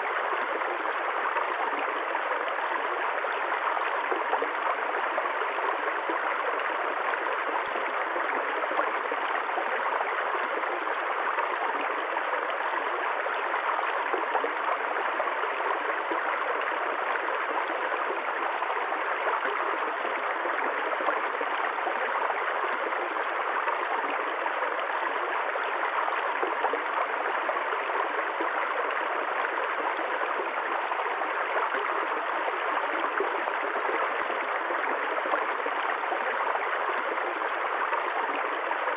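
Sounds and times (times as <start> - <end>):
running water flowing: 0.0 - 38.9.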